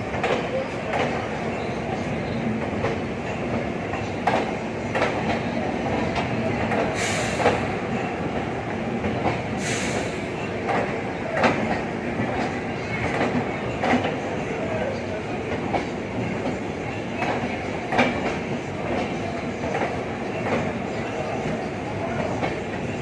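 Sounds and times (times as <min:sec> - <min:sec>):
wheels clacking over rail joints: 0:00.0 - 0:14.7, 0:15.4 - 0:23.0
train rumbling on track: 0:00.0 - 0:23.0.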